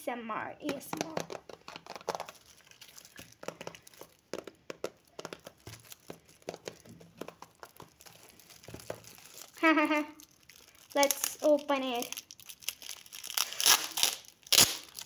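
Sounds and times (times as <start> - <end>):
foil gift wrap crinkling: 1.5 - 15.0.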